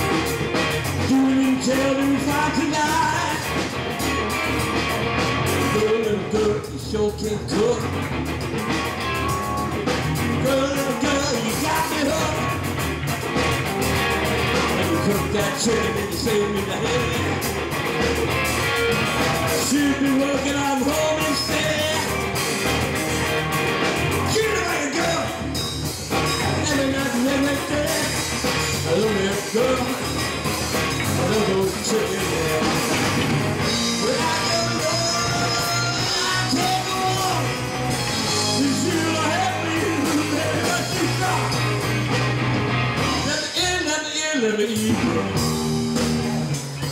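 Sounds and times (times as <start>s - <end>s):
electric bass: 0.0s - 44.0s, 44.6s - 46.9s
drum kit: 0.0s - 46.9s
electric guitar: 0.0s - 46.9s.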